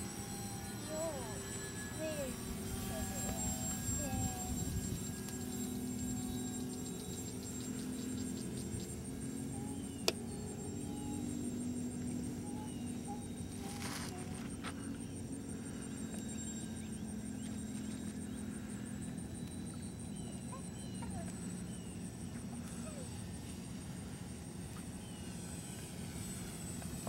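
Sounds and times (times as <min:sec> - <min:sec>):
model plane motors droning: 0:00.0 - 0:27.0.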